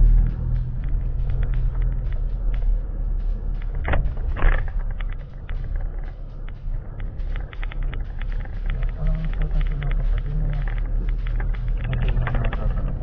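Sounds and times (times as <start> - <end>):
small clicks and rattles: 0.0 - 13.0
vehicle rumble from inside: 0.0 - 13.0.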